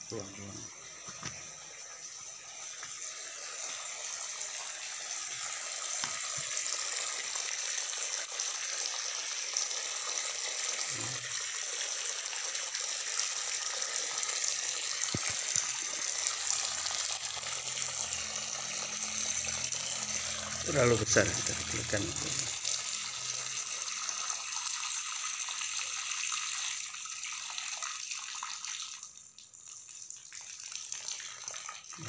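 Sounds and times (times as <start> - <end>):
water running: 0.0 - 32.0.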